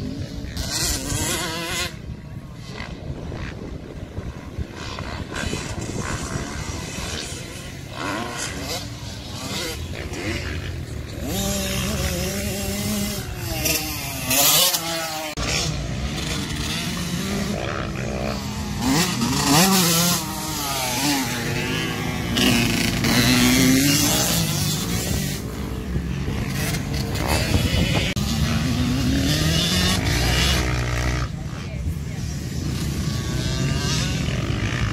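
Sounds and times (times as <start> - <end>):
dirt bike engines revving: 0.0 - 34.9.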